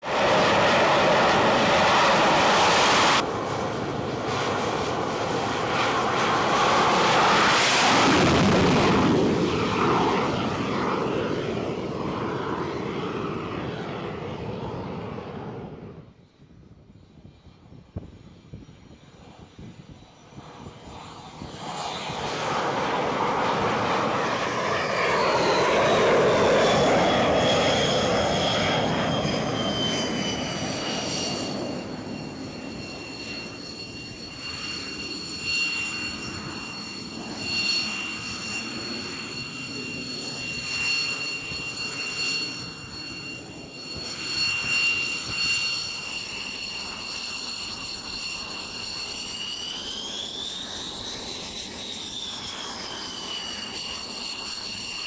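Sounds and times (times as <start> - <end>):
high turbine whine: 0.0 - 55.0
jet engine noise: 0.0 - 55.0.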